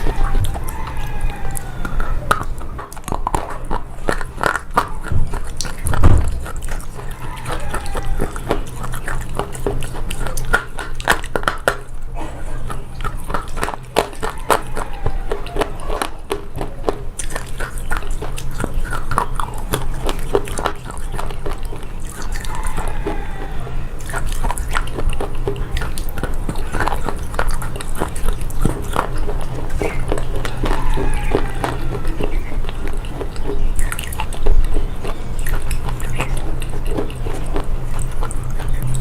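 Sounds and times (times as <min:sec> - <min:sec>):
pencil being chewed crunching: 0:00.0 - 0:39.0
steady low hum: 0:00.0 - 0:39.0.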